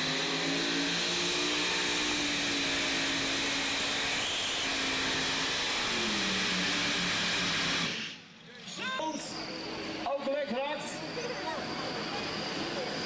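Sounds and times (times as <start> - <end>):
engine droning under load: 0.0 - 13.0.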